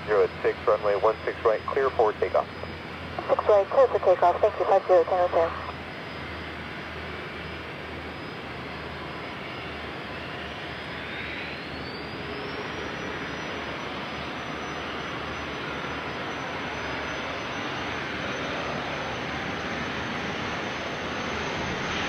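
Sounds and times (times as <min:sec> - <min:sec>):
high engine whine: 0:00.0 - 0:22.0
jet engines rushing: 0:00.0 - 0:22.0.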